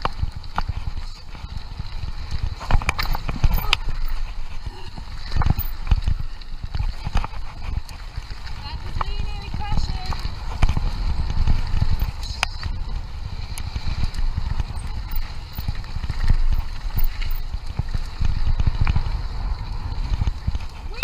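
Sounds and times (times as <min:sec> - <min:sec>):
bike rattling over bumps: 0:00.0 - 0:21.0
wind buffeting microphone: 0:00.0 - 0:21.0.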